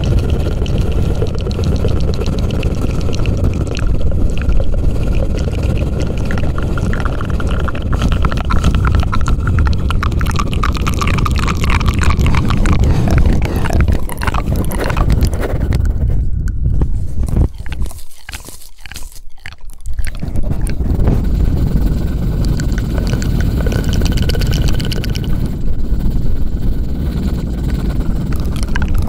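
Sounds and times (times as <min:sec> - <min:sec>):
wet clicks: 0:00.0 - 0:16.6, 0:17.3 - 0:21.2, 0:22.4 - 0:25.5, 0:28.2 - 0:29.0
low rumble of microphone handling: 0:00.0 - 0:18.5, 0:20.0 - 0:29.0.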